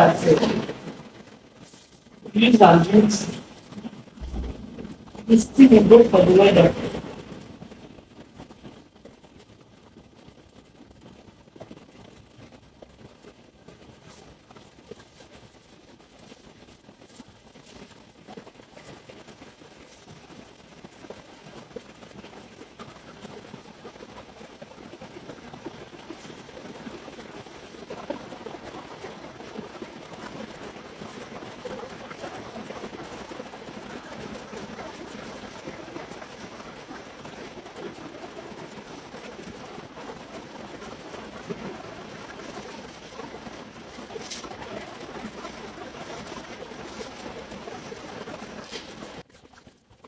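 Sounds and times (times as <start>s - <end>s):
steady rainfall: 0.0s - 7.8s, 12.9s - 49.2s.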